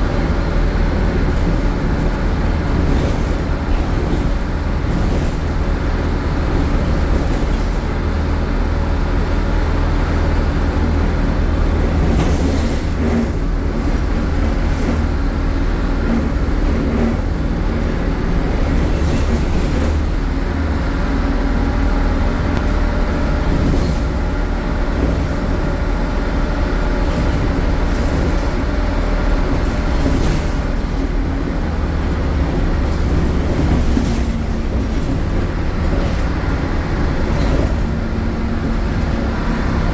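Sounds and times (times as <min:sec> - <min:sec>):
bus engine low drone: 0:00.0 - 0:39.9.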